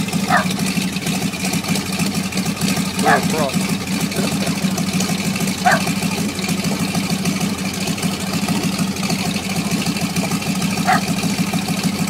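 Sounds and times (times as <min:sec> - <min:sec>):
aircraft engine idling unevenly: 0:00.0 - 0:12.0.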